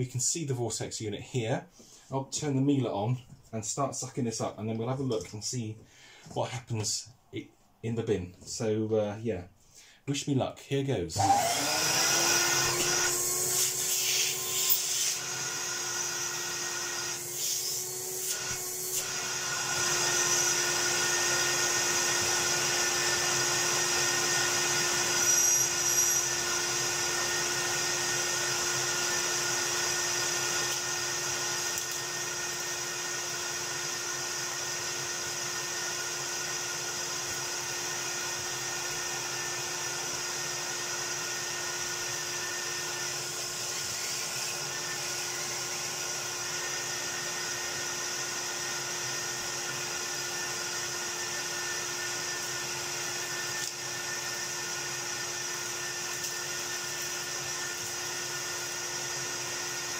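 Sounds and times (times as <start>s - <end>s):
vacuum cleaner high-pitched whine: 11.2s - 59.9s
vacuum sucking up hair: 11.2s - 59.9s.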